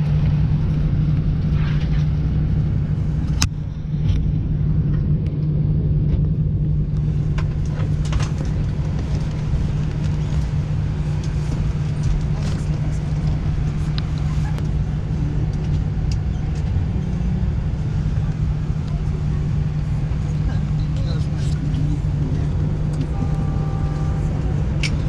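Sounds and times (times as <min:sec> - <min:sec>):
low cabin hum: 0:00.0 - 0:25.0.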